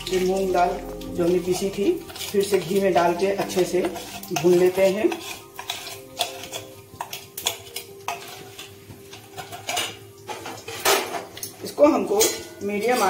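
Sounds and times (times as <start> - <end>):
food frying in hot fat: 0.0 - 13.0.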